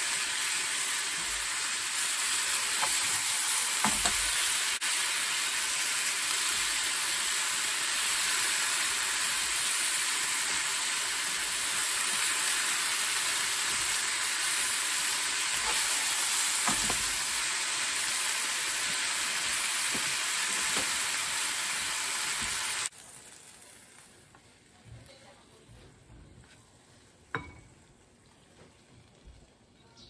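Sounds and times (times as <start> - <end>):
food sizzling in a frying pan: 0.0 - 25.7.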